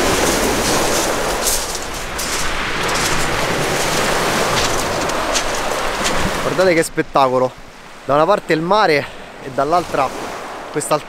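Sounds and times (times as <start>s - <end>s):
surf on pebble beach: 0.0s - 11.0s.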